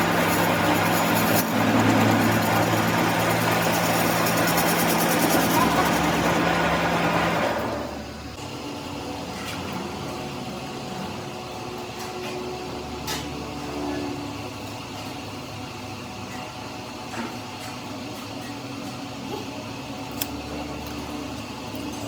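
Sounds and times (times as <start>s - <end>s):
loud workshop machine: 0.0s - 22.0s.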